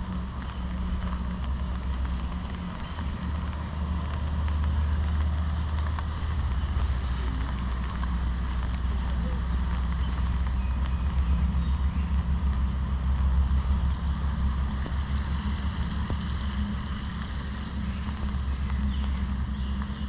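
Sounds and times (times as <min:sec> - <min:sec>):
rain hissing in forest: 0:00.0 - 0:20.0
wind rumble on microphone: 0:00.0 - 0:20.0.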